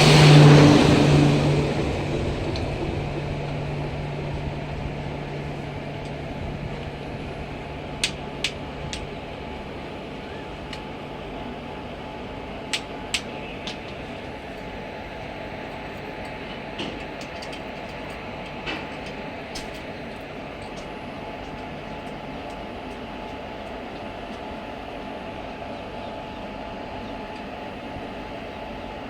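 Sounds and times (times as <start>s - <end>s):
train low hum: 0.0s - 29.0s.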